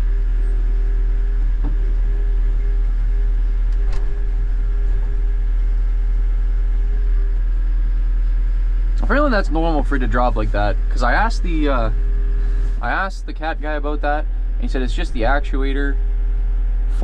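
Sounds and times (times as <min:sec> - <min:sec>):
diesel engine drone: 0:00.0 - 0:17.0
faint steady whine: 0:00.0 - 0:17.0.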